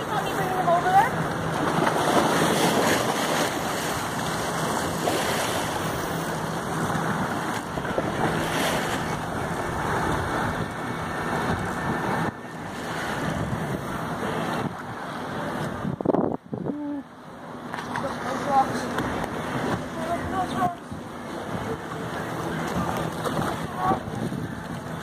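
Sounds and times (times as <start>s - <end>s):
wind buffeting microphone: 0.0s - 16.8s, 19.0s - 25.0s
waves on rocky shore: 0.0s - 25.0s.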